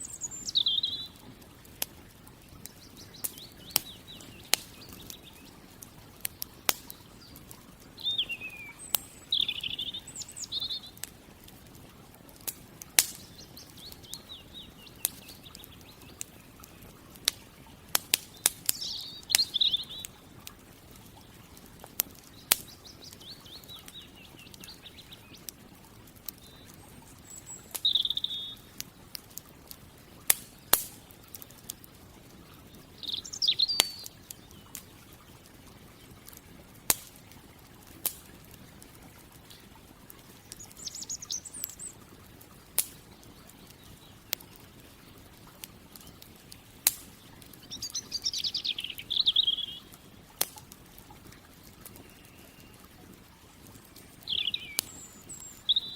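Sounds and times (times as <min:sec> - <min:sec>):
campfire crackling and popping: 0:00.0 - 0:55.9
small birds singing: 0:00.0 - 0:55.9.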